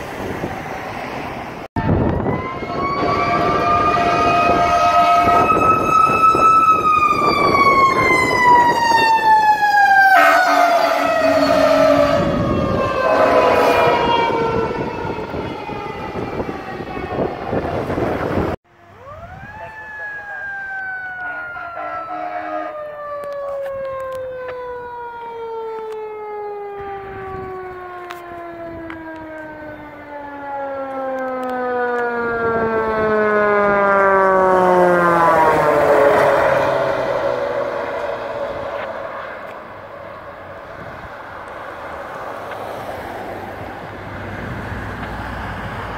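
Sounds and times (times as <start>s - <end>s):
truck engine and road noise: 0.0s - 45.9s.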